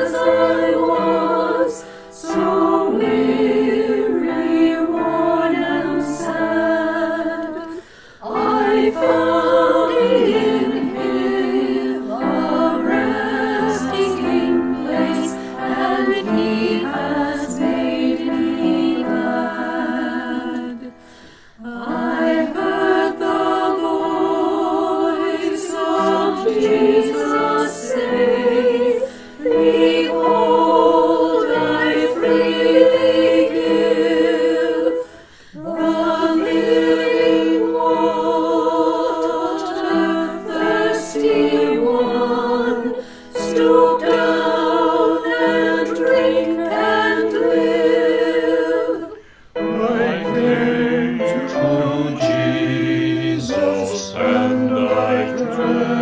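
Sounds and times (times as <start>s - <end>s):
choir singing a hymn: 0.0s - 56.0s
piano accompaniment: 0.0s - 56.0s.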